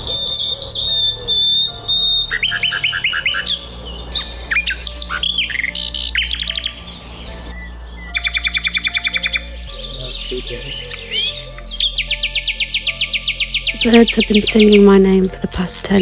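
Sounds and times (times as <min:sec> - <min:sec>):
songbirds singing and chirping: 0:00.0 - 0:16.0.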